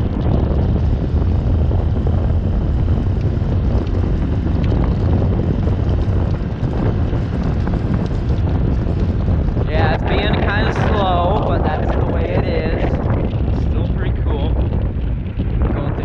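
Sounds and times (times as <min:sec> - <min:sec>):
golf cart engine running: 0:00.0 - 0:16.0
wind buffeting microphone: 0:00.0 - 0:16.0.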